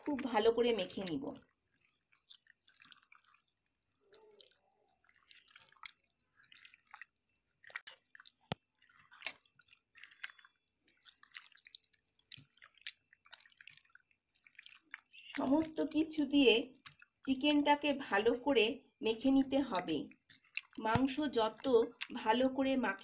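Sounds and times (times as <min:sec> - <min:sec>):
wet squelching of kneaded meat: 0:00.0 - 0:23.0.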